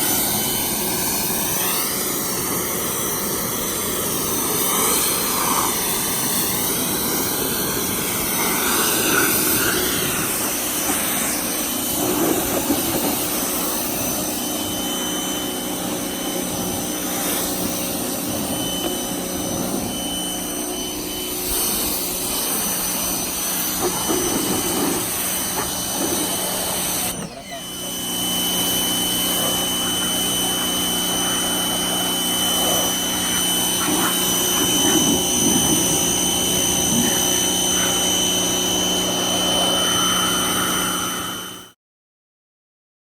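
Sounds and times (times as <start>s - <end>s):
water jet hissing: 0.0s - 41.6s
pressure washer motor humming: 0.0s - 41.7s.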